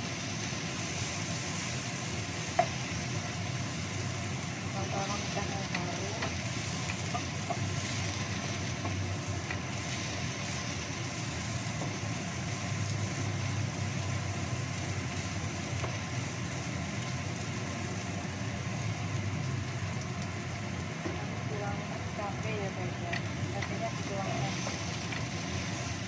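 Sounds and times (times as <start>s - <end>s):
onions sizzling in a wok: 0.0s - 26.0s
steady low rumble: 1.5s - 26.0s.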